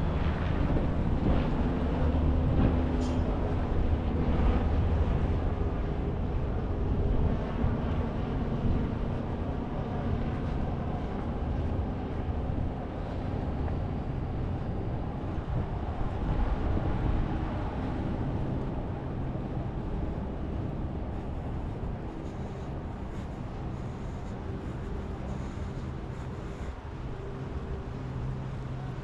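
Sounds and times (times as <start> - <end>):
boat engine hum: 0.0 - 29.0
low rumble: 0.0 - 29.0
wind buffeting microphone: 0.0 - 29.0.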